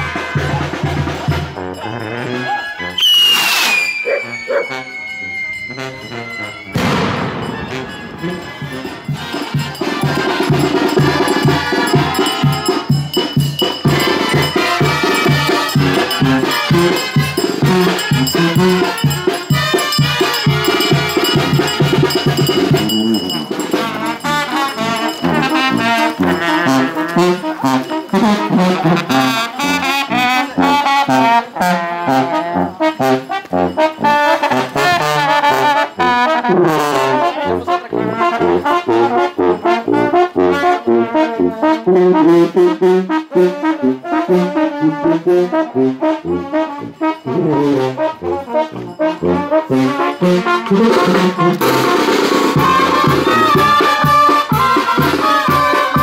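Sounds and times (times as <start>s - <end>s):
brass band music: 0.0s - 56.0s
trumpets and trombones: 0.0s - 56.0s.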